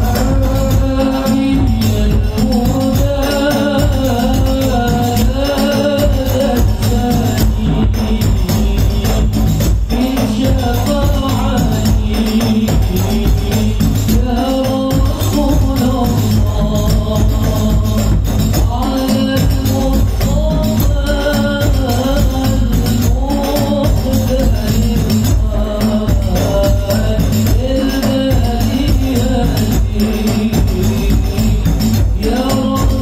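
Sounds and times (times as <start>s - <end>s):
hand percussion: 0.0s - 33.0s
man singing into a microphone: 0.0s - 33.0s.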